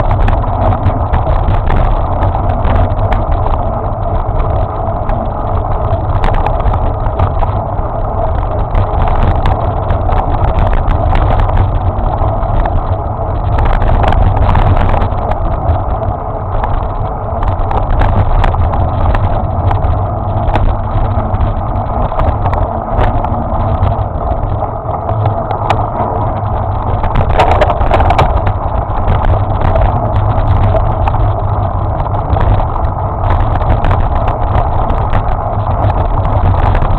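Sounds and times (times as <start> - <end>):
vehicle rumbling and rattling: 0.0 - 36.9.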